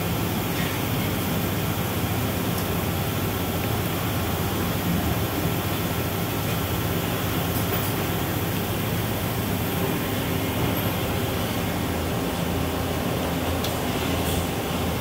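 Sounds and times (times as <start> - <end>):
low machinery hum: 0.0 - 15.0
machinery and ventilation hiss: 0.0 - 15.0.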